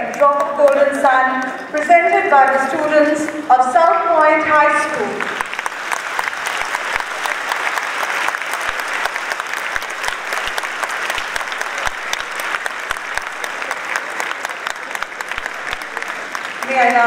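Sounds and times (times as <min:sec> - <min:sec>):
large audience applauding: 0:00.0 - 0:17.0.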